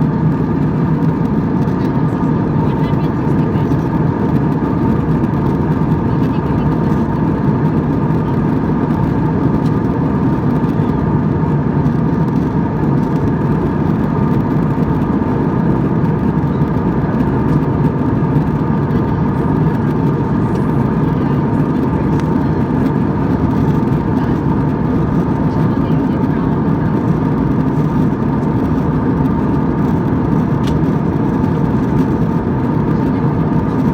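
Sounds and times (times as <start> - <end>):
jet engine cabin drone: 0.0 - 33.9.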